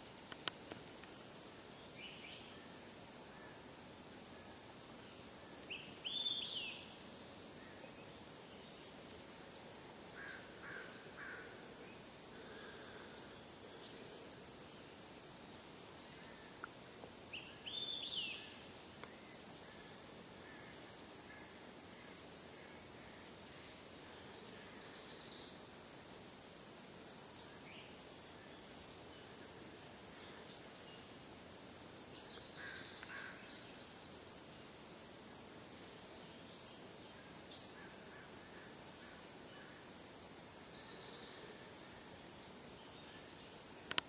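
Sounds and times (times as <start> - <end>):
faint hiss: 0.0 - 44.0.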